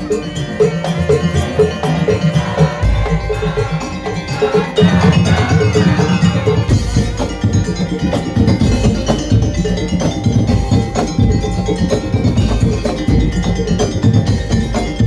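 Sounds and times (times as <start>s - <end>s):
drums: 0.0s - 15.0s
ringing metal tones: 0.0s - 15.0s
struck wooden percussion: 0.0s - 15.0s.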